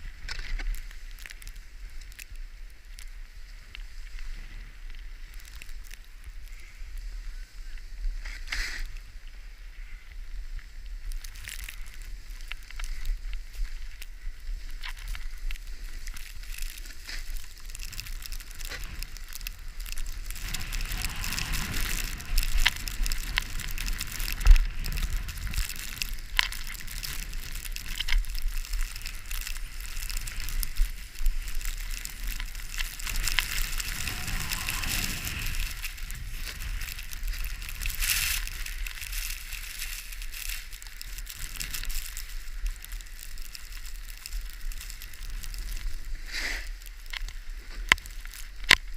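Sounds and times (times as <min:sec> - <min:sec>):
skis scraping and crunching: 0:00.0 - 0:48.9
wind rumble on microphone: 0:00.0 - 0:48.9
skis hissing over snow: 0:00.1 - 0:48.9.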